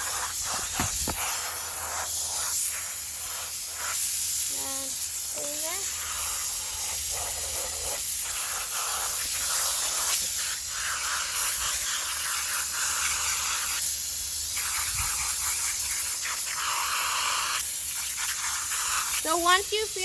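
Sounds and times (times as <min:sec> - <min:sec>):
water spraying: 0:00.0 - 0:20.0.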